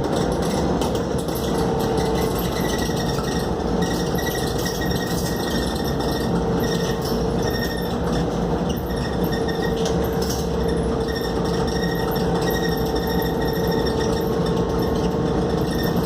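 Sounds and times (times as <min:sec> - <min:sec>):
bus diesel engine droning: 0:00.0 - 0:16.0.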